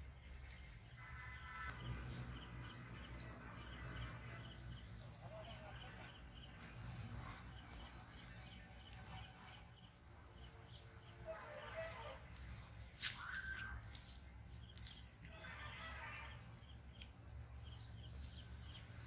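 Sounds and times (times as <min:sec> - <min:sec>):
small bird chirping: 0:00.2 - 0:15.2, 0:16.2 - 0:19.0.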